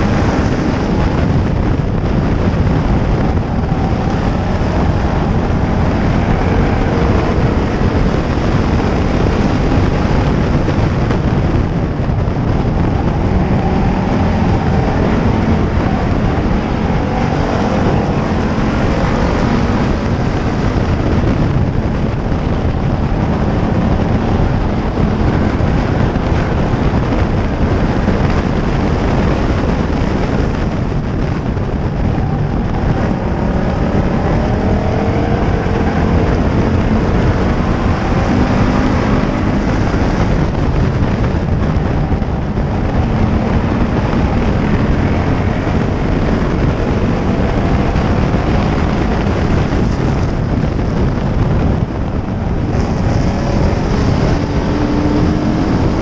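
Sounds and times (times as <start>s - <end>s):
other race car engines: 0.0s - 56.0s
race car engine running hard: 0.0s - 56.0s.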